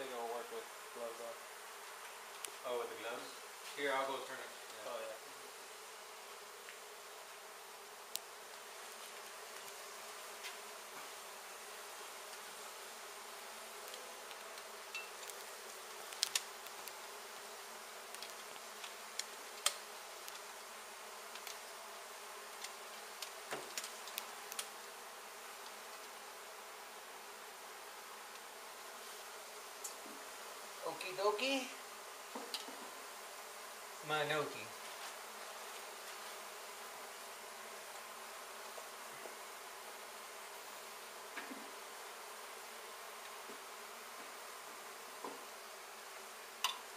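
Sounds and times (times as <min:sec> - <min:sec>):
bees humming: 0:00.0 - 0:46.9.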